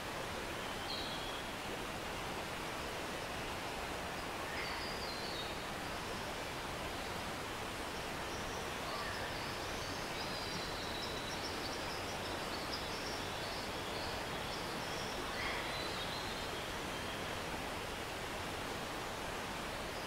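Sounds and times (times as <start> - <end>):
stream rushing water: 0.0 - 20.0.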